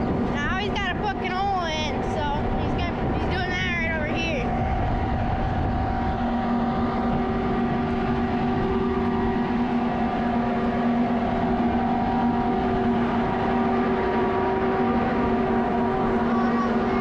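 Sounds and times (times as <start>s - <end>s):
farm machinery engine humming: 0.0s - 17.0s.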